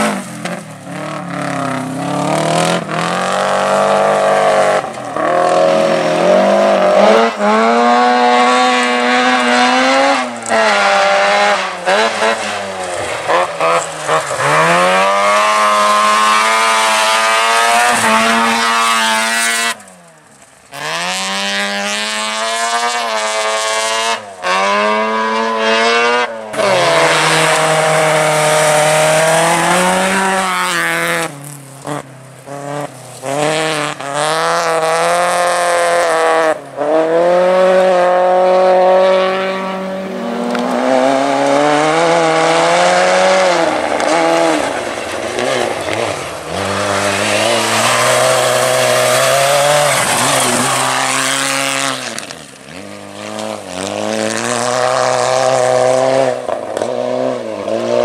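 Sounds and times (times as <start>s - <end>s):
car engine revving hard: 0.0s - 19.8s, 20.8s - 58.0s.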